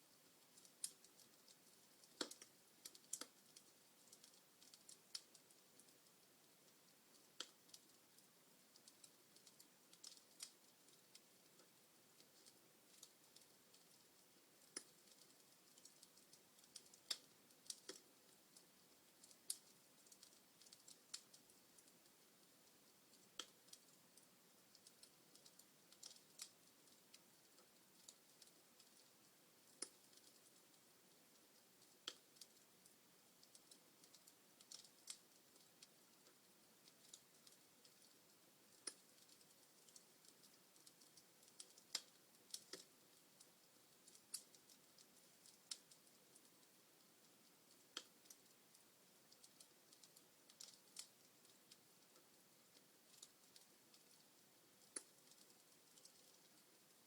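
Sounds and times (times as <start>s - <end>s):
faint fire hiss: 0.0s - 57.0s
wood fire crackling: 0.0s - 57.0s.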